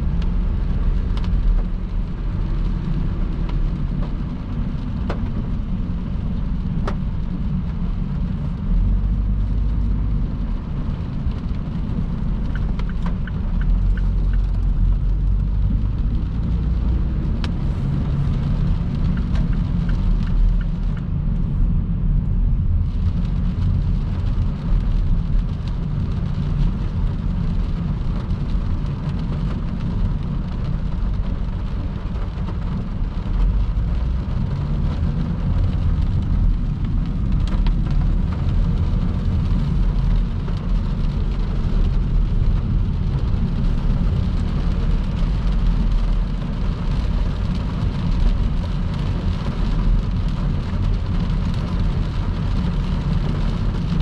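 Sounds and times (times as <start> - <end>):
raindrops ticking: 0.0 - 21.5, 22.6 - 54.0
road and tyre noise: 0.0 - 54.0.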